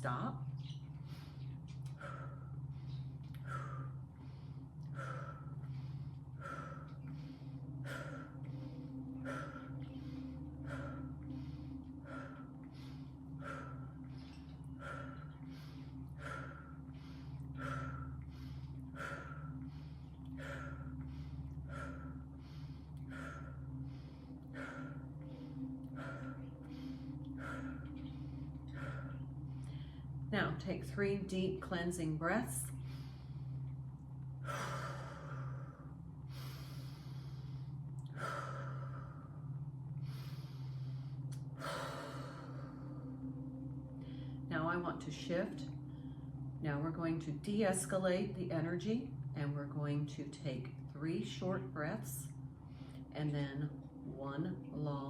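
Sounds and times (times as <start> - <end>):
meditation music drone: 0.0 - 55.0
woman rapid rhythmic breathing: 0.0 - 55.0.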